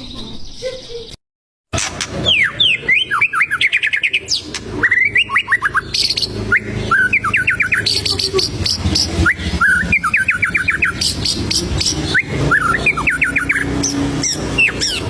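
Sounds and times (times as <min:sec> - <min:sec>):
bird singing whistled notes: 0:02.2 - 0:15.0.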